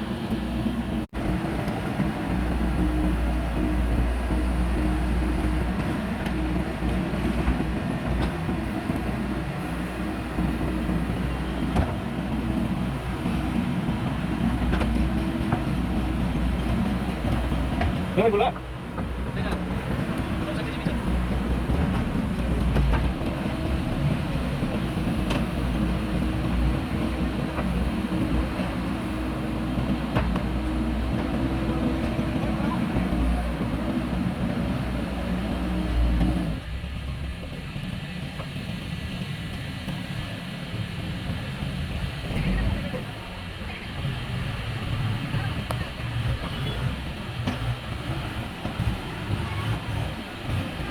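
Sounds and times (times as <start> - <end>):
diesel engine rumbling: 0.0 - 50.9.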